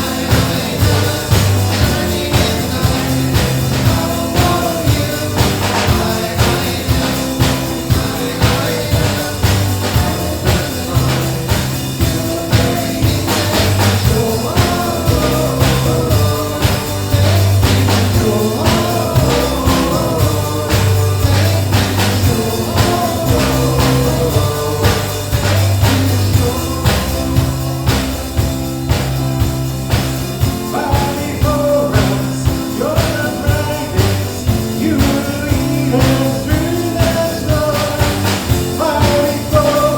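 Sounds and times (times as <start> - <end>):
person singing: 0.0 - 29.0, 30.5 - 39.9
steady drum beat: 0.0 - 39.9
sustained bass notes: 0.0 - 39.9.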